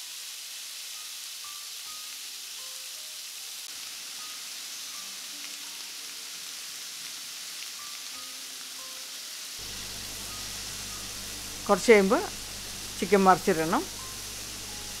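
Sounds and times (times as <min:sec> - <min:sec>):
chicken sizzling on a grill pan: 0:00.0 - 0:15.0
soft background music: 0:00.6 - 0:15.0.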